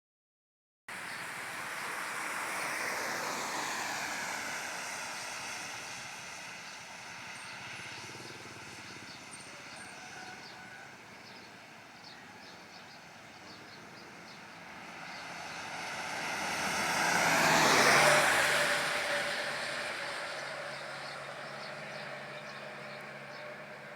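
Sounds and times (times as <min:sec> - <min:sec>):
vehicle passing on wet road: 0:00.9 - 0:11.9, 0:13.0 - 0:23.9
vehicle approaching: 0:00.9 - 0:23.9.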